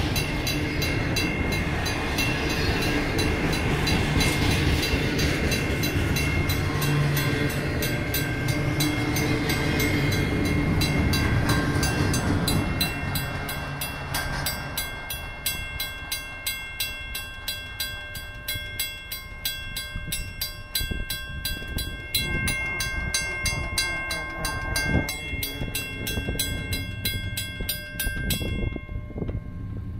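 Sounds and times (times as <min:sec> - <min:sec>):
crossing bells ringing: 0:00.0 - 0:29.9
train cars rumbling: 0:00.0 - 0:29.9.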